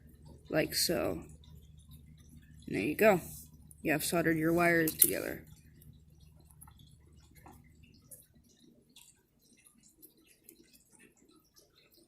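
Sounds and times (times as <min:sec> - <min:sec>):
faint ticks and clicks: 0:00.0 - 0:12.0.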